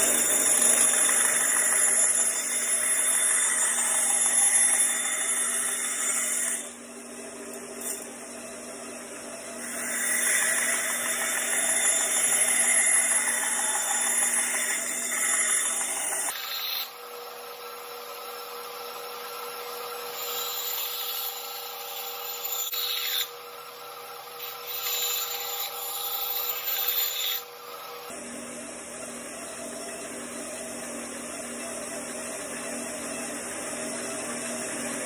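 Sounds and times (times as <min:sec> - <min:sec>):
bandsaw cutting steel: 0:00.0 - 0:28.3
bandsaw running: 0:00.0 - 0:35.0.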